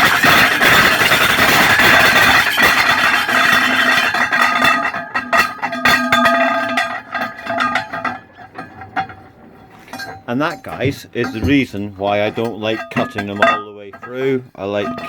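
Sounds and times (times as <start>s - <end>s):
metal piece clattering: 0.0s - 15.0s
ringing metal tone: 0.0s - 15.0s.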